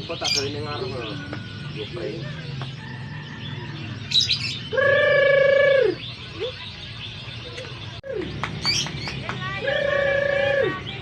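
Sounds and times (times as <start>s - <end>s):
bird's steady pitched call: 0.0s - 11.0s.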